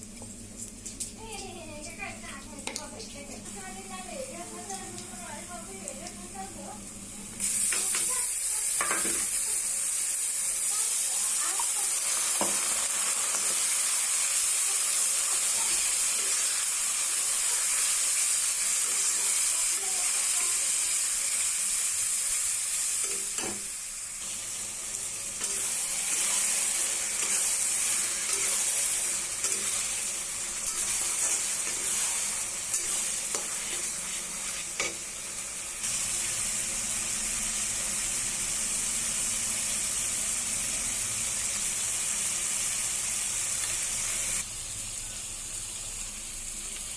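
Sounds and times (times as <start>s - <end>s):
food sizzling in hot oil: 0.0s - 46.9s.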